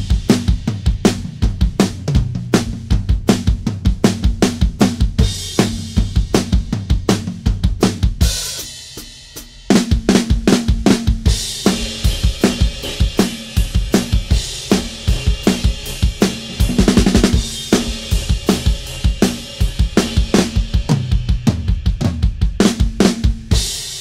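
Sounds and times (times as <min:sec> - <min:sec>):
drum kit beat: 0:00.0 - 0:24.0
fast drum fill: 0:00.0 - 0:24.0.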